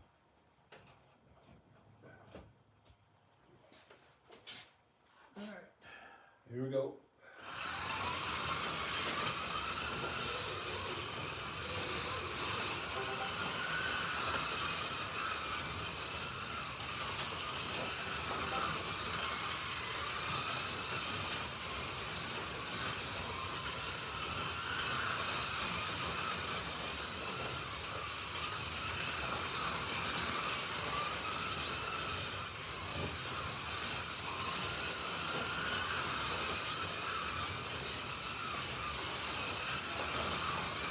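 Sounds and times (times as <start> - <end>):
slot car electric motors whining: 7.4 - 40.9.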